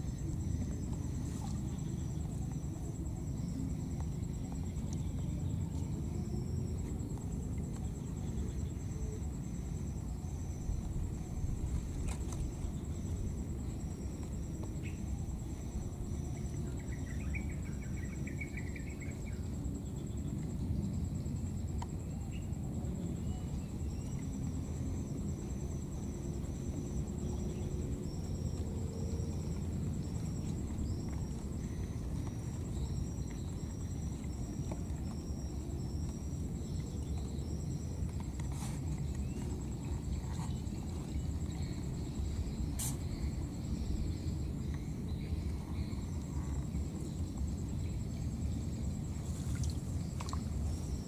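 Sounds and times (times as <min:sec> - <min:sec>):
insects trilling: 0:00.0 - 0:51.0
steady low rumble: 0:00.0 - 0:51.0.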